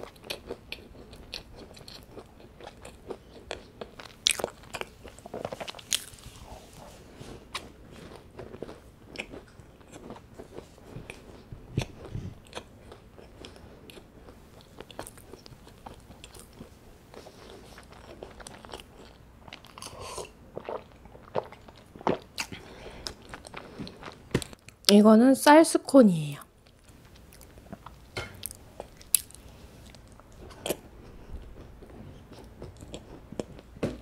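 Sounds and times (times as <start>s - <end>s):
chewing with soft crunches: 0.0s - 24.9s, 26.6s - 33.8s.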